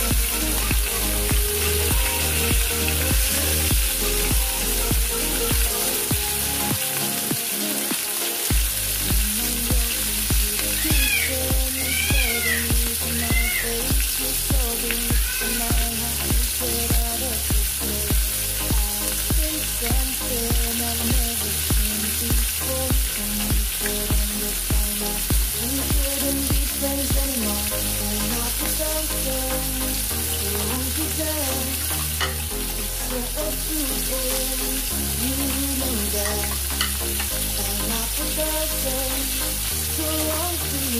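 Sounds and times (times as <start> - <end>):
background music with beat: 0.0 - 40.9
fish sizzling in hot oil: 0.0 - 40.9.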